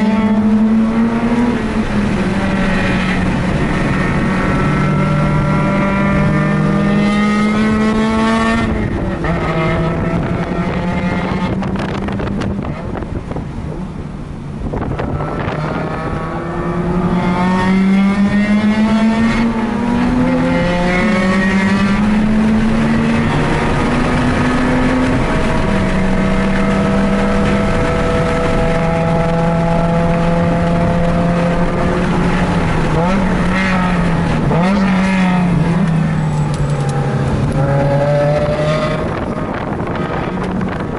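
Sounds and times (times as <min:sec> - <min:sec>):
rotary engine at full throttle: 0:00.0 - 0:14.0, 0:14.6 - 0:40.9
wind noise: 0:00.0 - 0:40.9.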